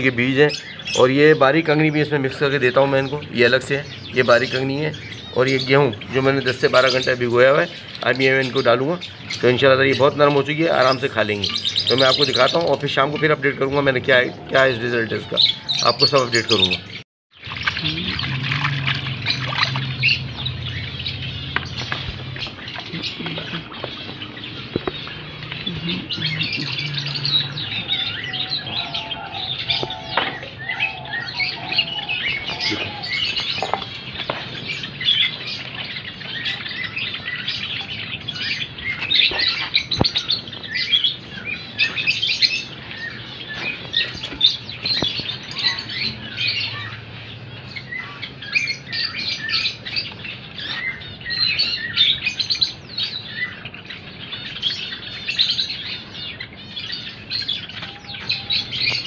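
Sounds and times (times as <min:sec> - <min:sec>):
sparrows chirping: 0:00.0 - 0:59.0.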